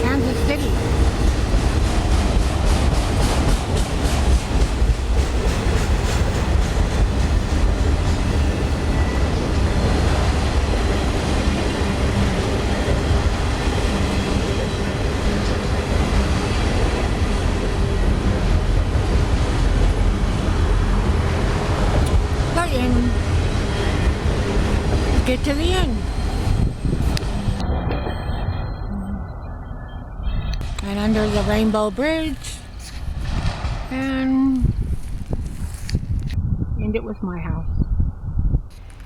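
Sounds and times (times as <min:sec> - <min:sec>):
freight train rumbling past: 0:00.0 - 0:29.2, 0:30.6 - 0:36.2.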